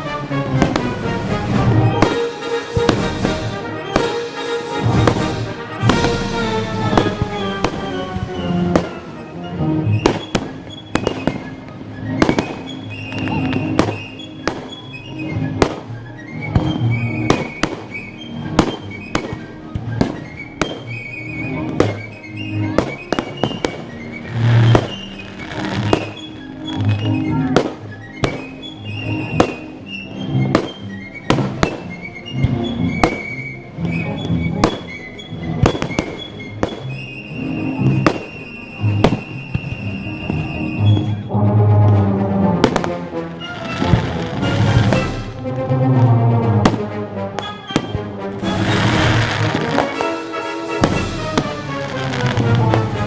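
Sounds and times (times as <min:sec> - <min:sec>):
fireworks bangs and crackles: 0:00.0 - 0:29.8, 0:30.4 - 0:41.3, 0:42.6 - 0:53.0
orchestral music: 0:00.0 - 0:53.0.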